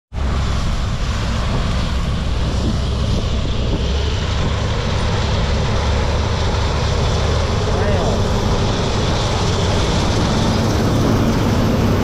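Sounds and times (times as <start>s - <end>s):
deep engine hum: 0.1s - 12.0s
threshing machinery whirring: 0.2s - 12.0s.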